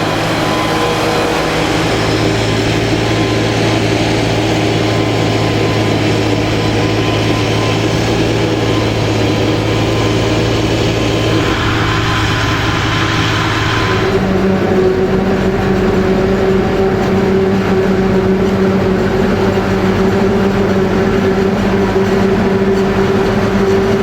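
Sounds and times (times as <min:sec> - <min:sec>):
diesel tractor engine: 0:00.0 - 0:24.0
maize-chopping machinery: 0:00.0 - 0:24.0.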